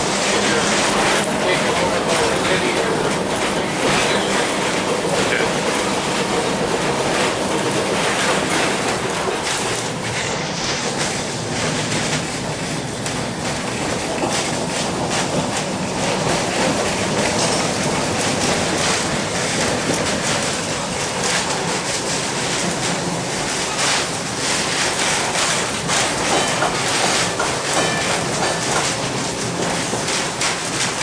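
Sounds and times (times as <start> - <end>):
streetcar clicks and rattles: 0.0 - 31.0
wheels rumbling on rail: 0.0 - 31.0.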